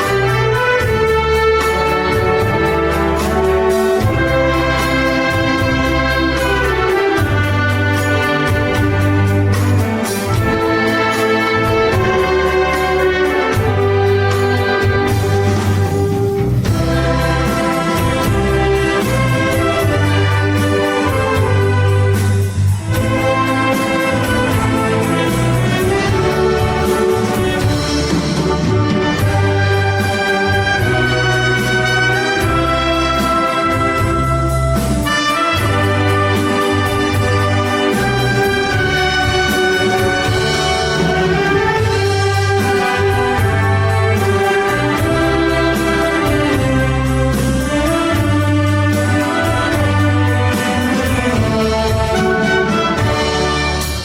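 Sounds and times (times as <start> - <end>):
brass carrying melody: 0.0 - 54.0.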